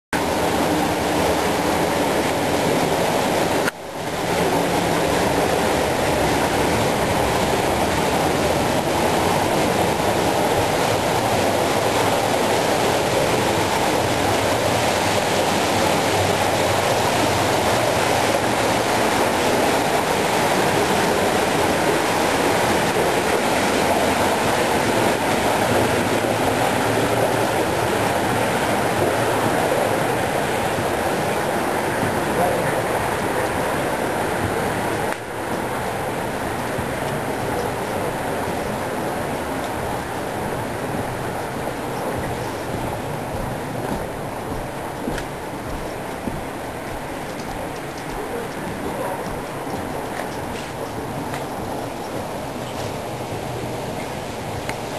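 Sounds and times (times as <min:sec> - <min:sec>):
boat engine: 0:00.2 - 0:54.9
water rushing: 0:00.2 - 0:54.9.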